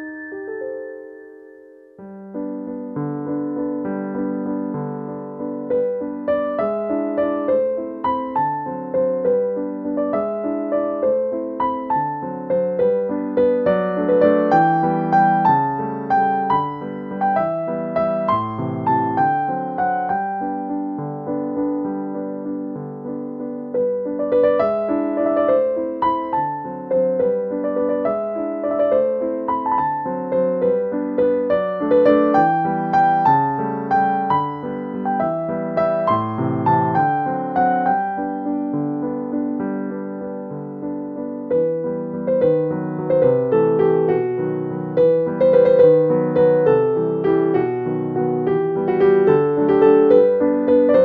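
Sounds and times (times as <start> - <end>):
gentle piano melody: 0.0 - 51.0.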